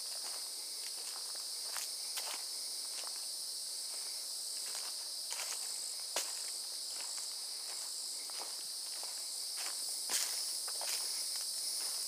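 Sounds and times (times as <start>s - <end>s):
footsteps on leafy dirt trail: 0.0s - 12.0s
high-pitched insect chorus: 0.0s - 12.0s.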